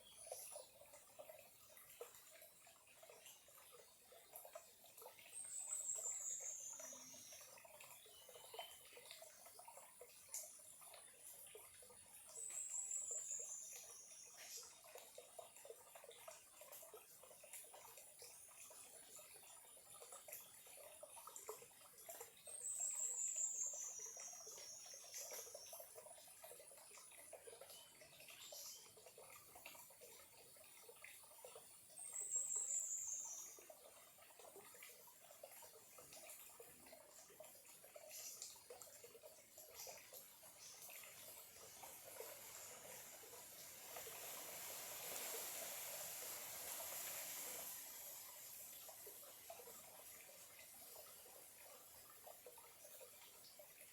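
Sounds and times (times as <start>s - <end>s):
stream trickling: 0.0s - 53.9s.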